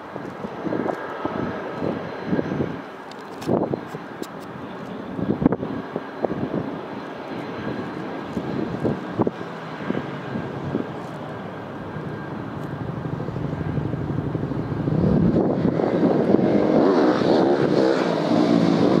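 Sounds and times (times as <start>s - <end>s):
jet engines rumbling and whining: 0.0s - 19.0s.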